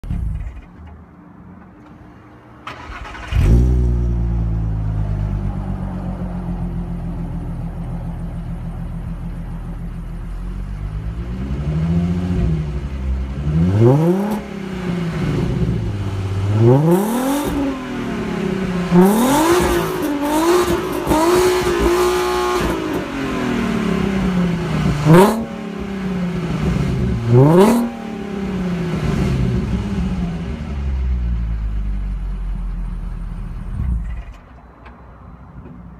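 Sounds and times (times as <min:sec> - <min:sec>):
car engine starting and idling: 0:00.0 - 0:35.9
car engine revving: 0:02.6 - 0:32.6.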